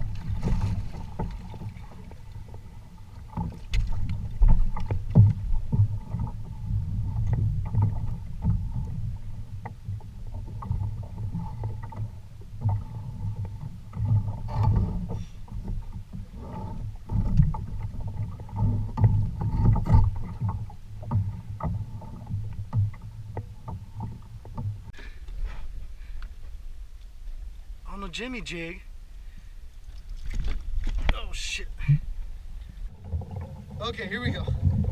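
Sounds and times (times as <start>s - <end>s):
water lapping against kayak hull: 0.0s - 34.9s.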